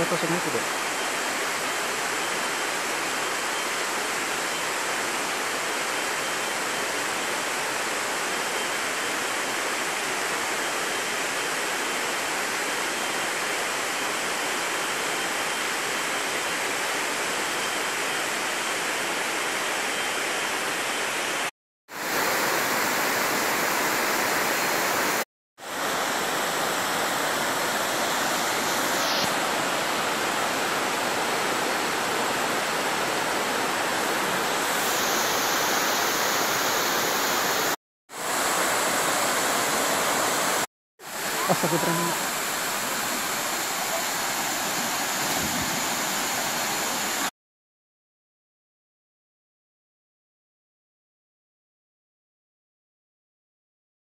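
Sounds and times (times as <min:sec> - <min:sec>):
waterfall and stream rushing: 0:00.0 - 0:47.3.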